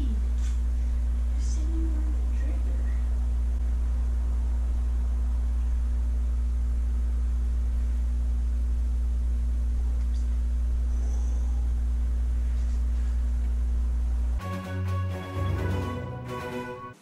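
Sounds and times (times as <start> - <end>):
low droning hum: 0.0 - 16.8.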